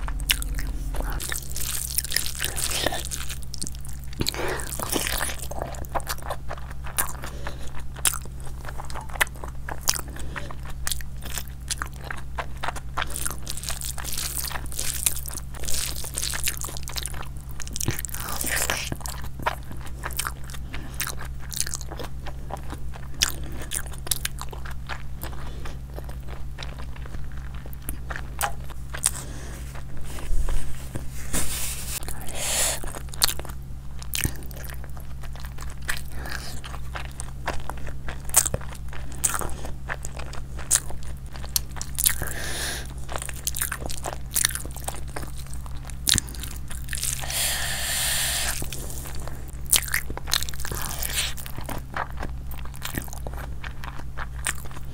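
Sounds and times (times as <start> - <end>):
person chewing food: 0.0 - 54.9
steady low hum: 0.0 - 54.9.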